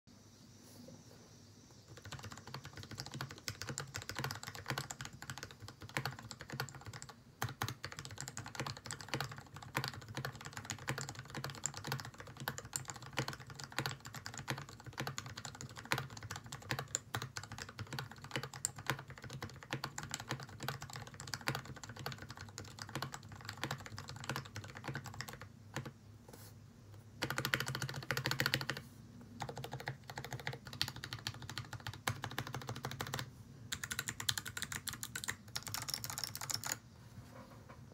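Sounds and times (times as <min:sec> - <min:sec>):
mechanical keyboard typing: 0:01.9 - 0:25.9, 0:27.2 - 0:28.8, 0:29.4 - 0:36.8.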